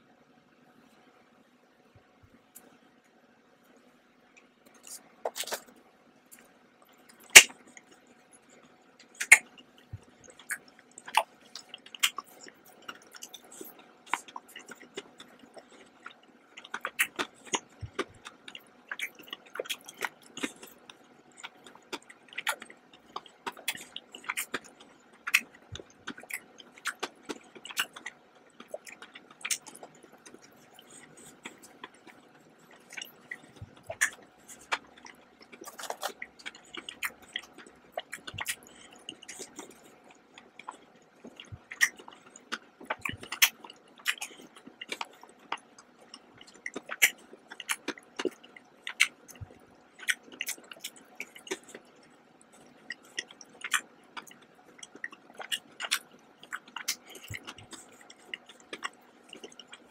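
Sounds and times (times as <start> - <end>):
chewing chocolate with snaps: 4.4 - 59.9.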